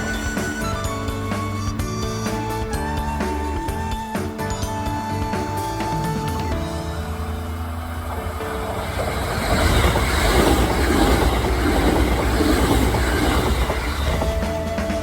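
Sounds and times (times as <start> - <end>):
electric train passing on rails: 0.0 - 15.0.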